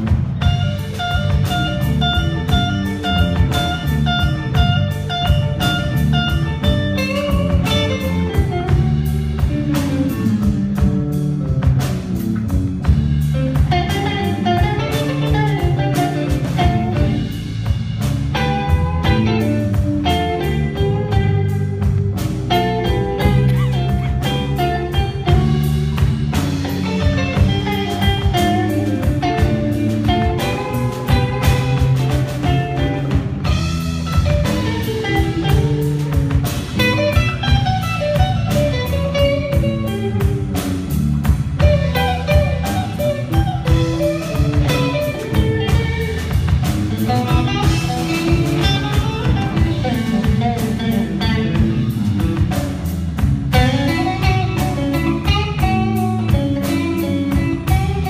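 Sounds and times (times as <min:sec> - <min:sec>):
bass guitar: 0:00.0 - 0:58.0
drum kit beat: 0:00.0 - 0:58.0
electric guitar: 0:00.0 - 0:58.0.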